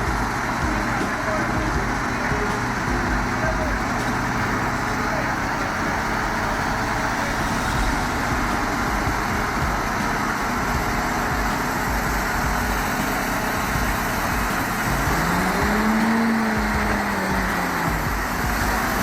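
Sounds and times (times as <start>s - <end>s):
engine revving: 0.0s - 19.0s
heavy vehicle engine running: 0.0s - 19.0s.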